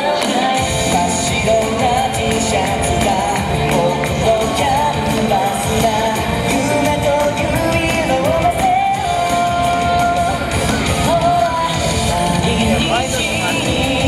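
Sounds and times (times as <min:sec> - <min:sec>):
pop song over loudspeakers: 0:00.0 - 0:14.0.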